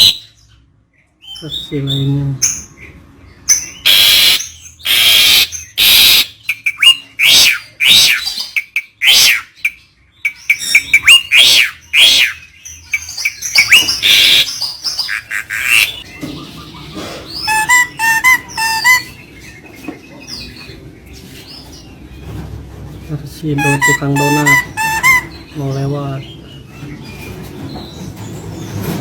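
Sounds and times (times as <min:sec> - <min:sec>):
bird calling: 0:00.0 - 0:00.5, 0:01.3 - 0:20.8, 0:23.4 - 0:28.0.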